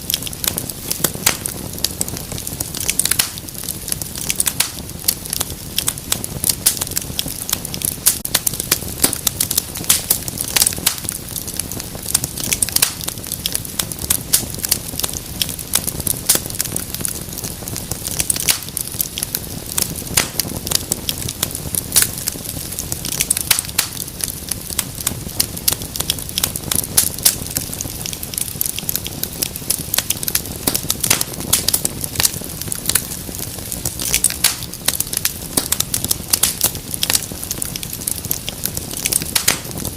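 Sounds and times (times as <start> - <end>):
low rumble of flames: 0.0 - 39.9
wood fire popping and snapping: 0.0 - 39.9.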